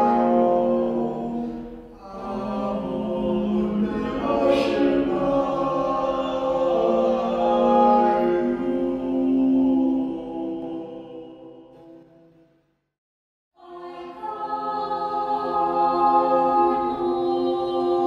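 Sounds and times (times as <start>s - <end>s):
men's choir singing: 0.0s - 11.8s, 13.6s - 18.0s.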